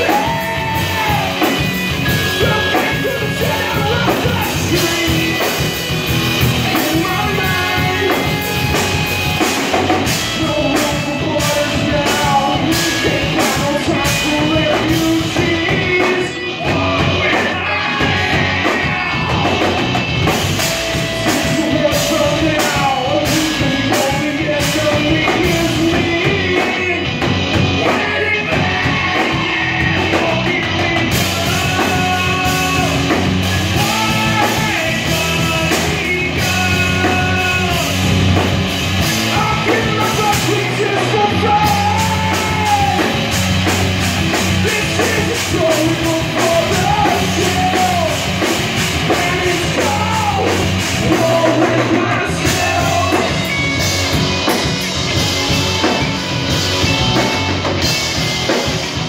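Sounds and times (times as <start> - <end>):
live rock band: 0.0 - 59.0
loud drumming: 0.0 - 59.0.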